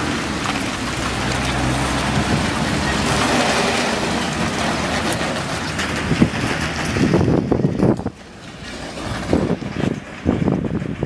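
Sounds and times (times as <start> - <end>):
truck passing close by: 0.0 - 11.0
wind buffeting microphone: 0.0 - 11.0.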